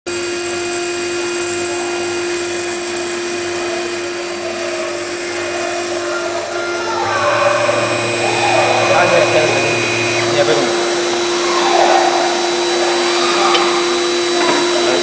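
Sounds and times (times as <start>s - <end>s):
router spindle whining: 0.1s - 15.0s.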